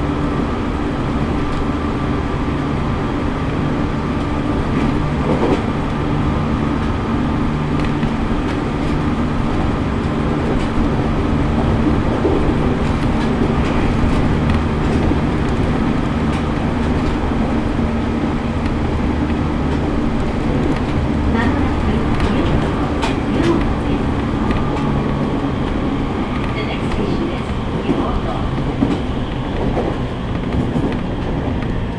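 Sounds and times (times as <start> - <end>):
train wheels rumbling: 0.0 - 31.9.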